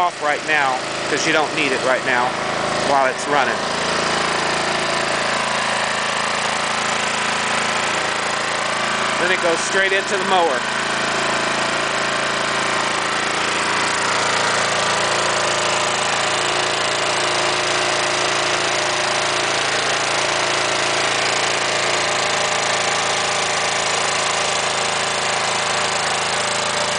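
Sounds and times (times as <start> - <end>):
lawn mower engine running: 0.0 - 26.9.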